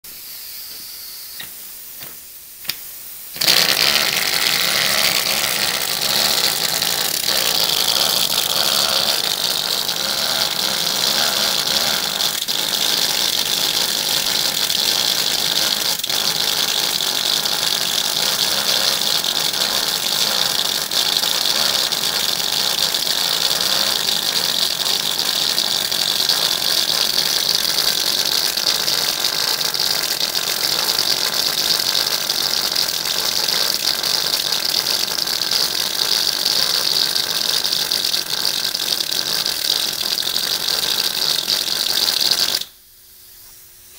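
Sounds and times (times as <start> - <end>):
small engine rattling: 3.4 - 42.7.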